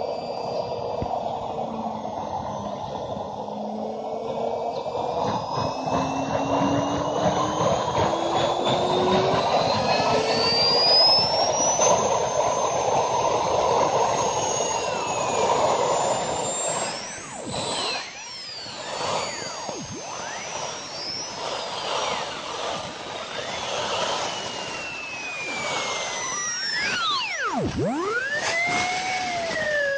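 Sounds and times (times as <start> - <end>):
rushing combustion noise: 0.0 - 29.9
turbine whine rising in pitch: 0.0 - 29.9.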